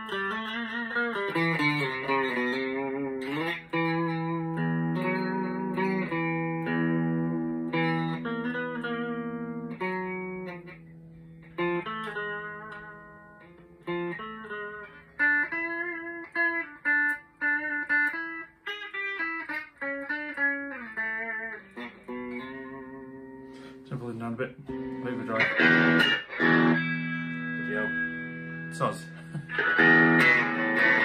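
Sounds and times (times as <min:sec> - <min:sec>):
electric guitar playing: 0:00.0 - 0:31.0.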